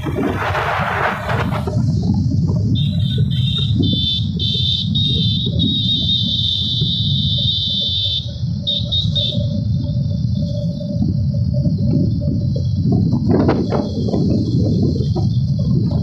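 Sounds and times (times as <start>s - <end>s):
wind buffeting microphone: 0.0s - 7.6s, 8.3s - 16.0s
road rumble: 0.0s - 16.0s
high-pitched buzzing tone: 2.6s - 15.6s.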